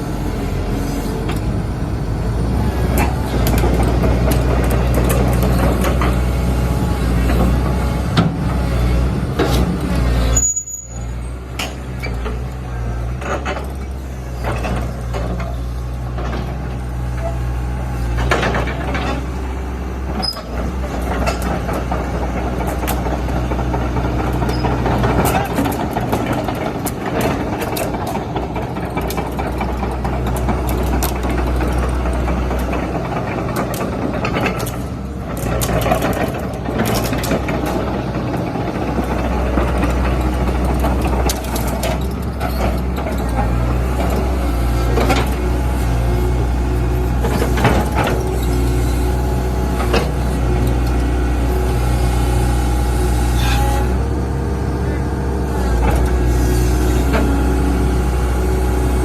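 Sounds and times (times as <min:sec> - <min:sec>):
excavator diesel engine drone: 0:00.0 - 0:59.0.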